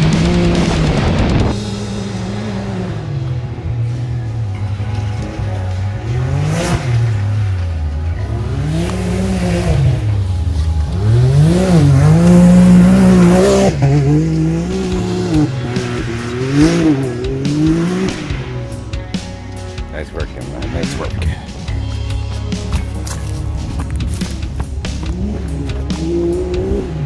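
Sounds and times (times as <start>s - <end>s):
utility vehicle engine revving: 0.0s - 27.0s.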